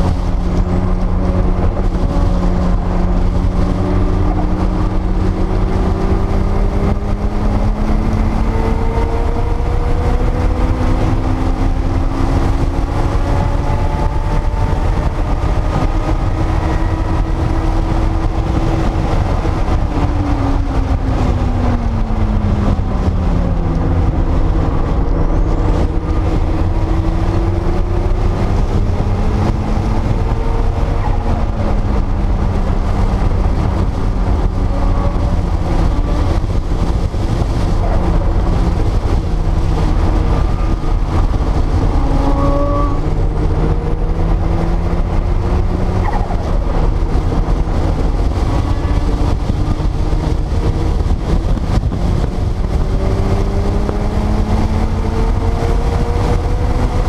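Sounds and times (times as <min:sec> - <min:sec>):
car engine at speed: 0:00.0 - 0:57.0
heavy low rumble: 0:00.0 - 0:57.0.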